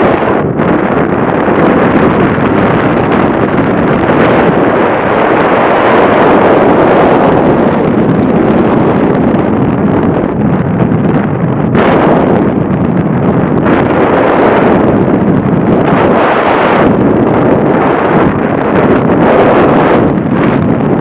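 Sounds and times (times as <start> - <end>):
wind buffeting a microphone: 0.0 - 21.0.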